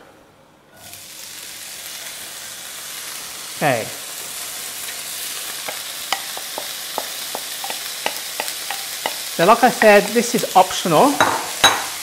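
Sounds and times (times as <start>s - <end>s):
bacon sizzling in a frying pan: 0.8s - 12.0s.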